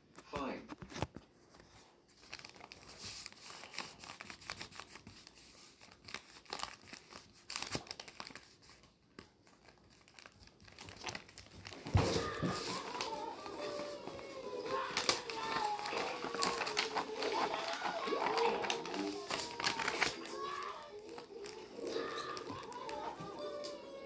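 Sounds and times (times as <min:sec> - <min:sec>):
crinkling and rustling: 0:00.1 - 0:24.0.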